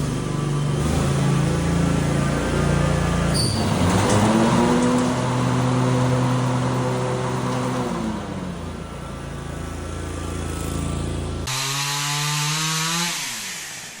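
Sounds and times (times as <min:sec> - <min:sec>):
mower engine running: 0:00.0 - 0:14.0.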